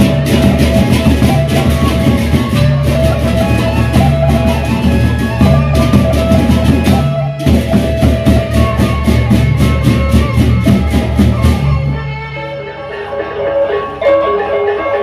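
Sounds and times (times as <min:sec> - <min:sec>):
large barrel drums: 0:00.0 - 0:12.2.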